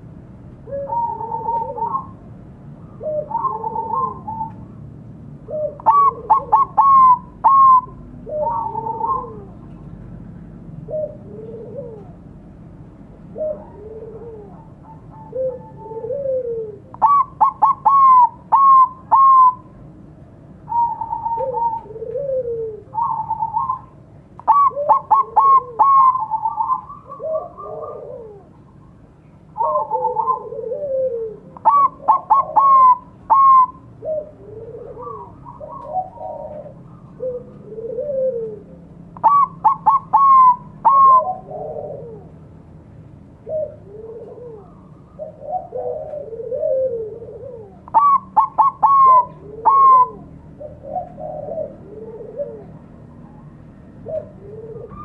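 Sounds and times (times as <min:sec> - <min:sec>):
dove cooing: 0:00.0 - 0:19.9, 0:20.6 - 0:42.7, 0:43.4 - 0:55.0.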